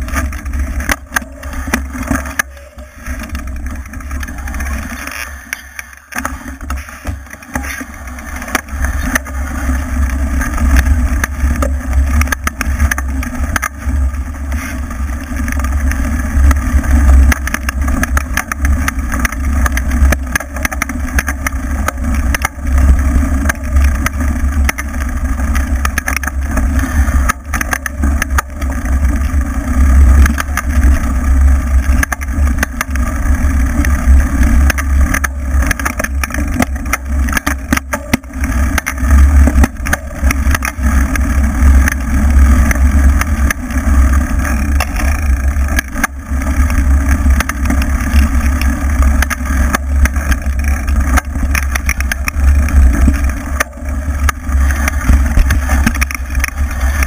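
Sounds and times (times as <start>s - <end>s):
tyre rumble on dirt trail: 0.0s - 57.0s.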